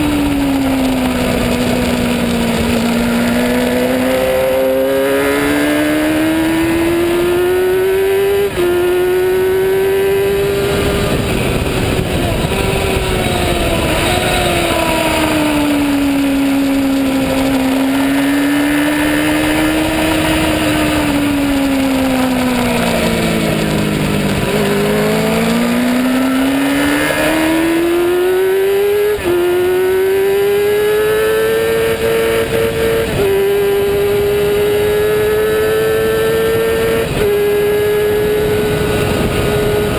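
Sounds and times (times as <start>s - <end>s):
motorcycle engine revving high: 0.0s - 39.9s
wind rush: 0.0s - 39.9s.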